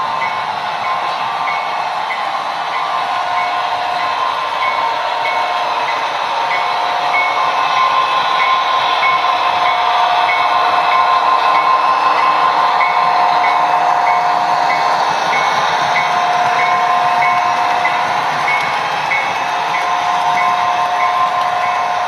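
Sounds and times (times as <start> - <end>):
model train diesel engine sound: 0.0 - 22.0
model train running hum: 0.0 - 22.0.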